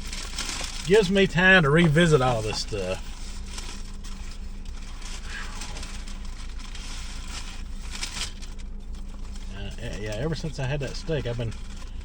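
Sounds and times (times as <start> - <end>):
faint crackling rustles: 0.0 - 12.0
low mechanical hum: 0.0 - 12.0.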